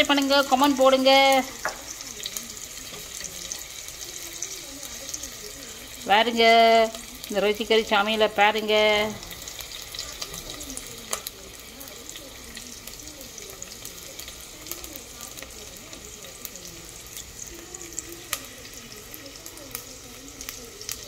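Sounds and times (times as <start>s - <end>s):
food sizzling in a pot: 0.0s - 21.0s.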